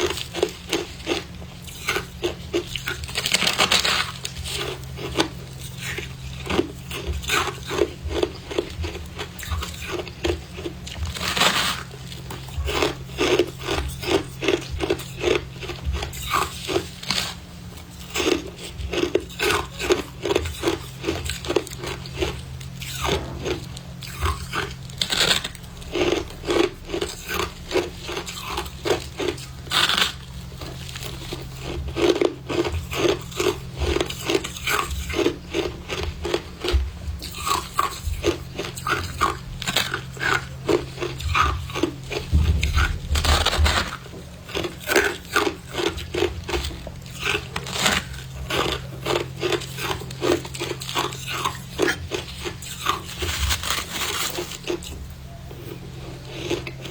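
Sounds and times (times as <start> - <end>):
person chewing frost crunching: 0.0 - 56.9.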